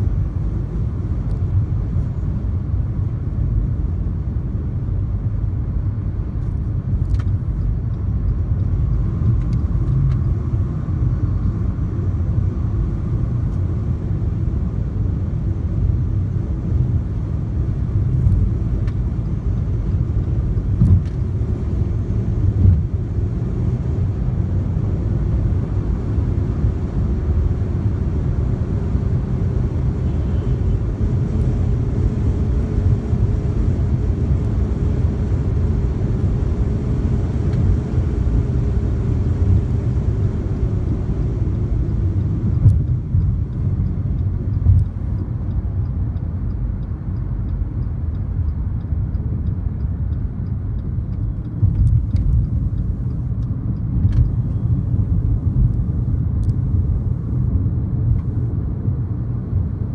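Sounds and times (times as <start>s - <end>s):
road and tyre rumble in car: 0.0s - 59.9s.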